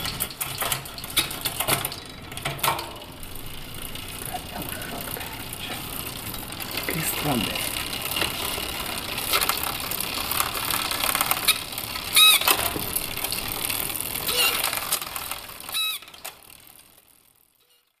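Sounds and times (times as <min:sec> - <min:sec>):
bicycle chain running over gears: 0:00.0 - 0:18.0
derailleur motor whirring: 0:00.0 - 0:18.0.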